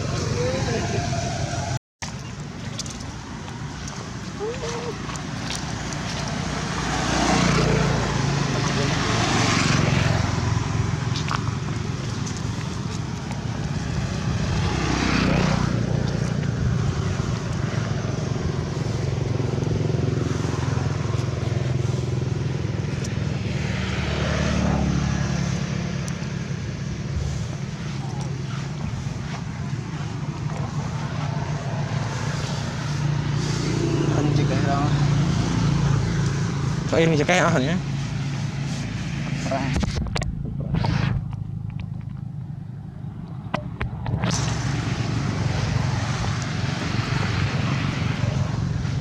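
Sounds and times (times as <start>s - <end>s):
vehicle engine passing by: 0.0s - 1.8s, 2.8s - 49.0s
broad rushing noise: 0.0s - 49.0s.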